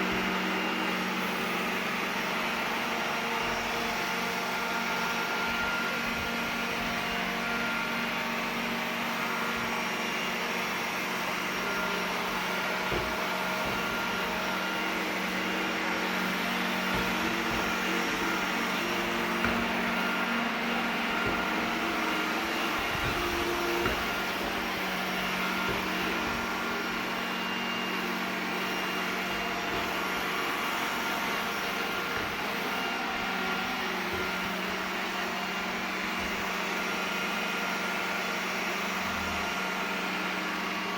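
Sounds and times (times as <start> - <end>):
robot vacuum running: 0.0 - 40.9.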